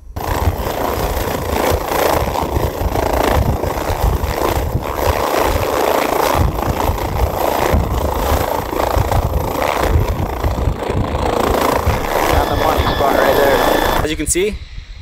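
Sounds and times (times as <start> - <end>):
rotor blades pulsing: 0.2 - 14.1
helicopter engine and rotor noise: 0.2 - 14.2.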